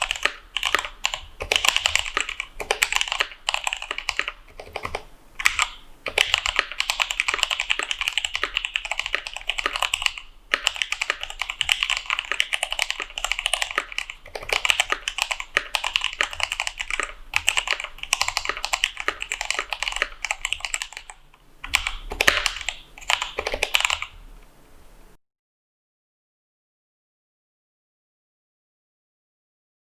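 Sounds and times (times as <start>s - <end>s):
mechanical keyboard typing: 0.0s - 24.2s.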